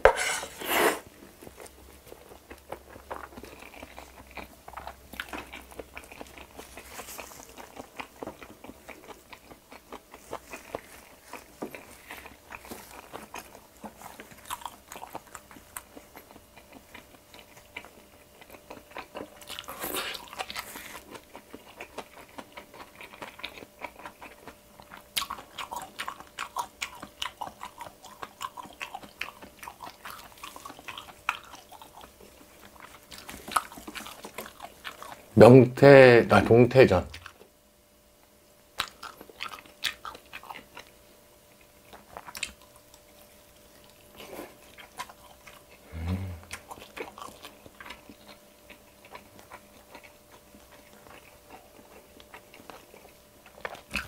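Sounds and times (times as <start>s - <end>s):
chewing crunchy pancakes: 0.0s - 36.0s, 37.1s - 54.0s.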